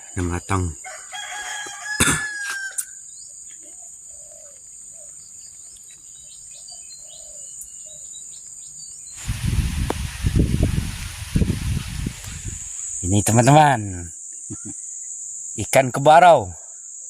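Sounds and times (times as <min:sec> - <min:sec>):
insect trilling: 0:00.0 - 0:17.0
rural ambience: 0:00.0 - 0:17.0.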